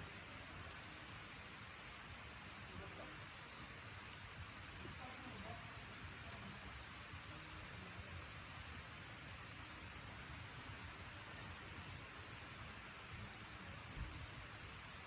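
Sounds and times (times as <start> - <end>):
wood fire hissing and crackling: 0.0 - 15.0.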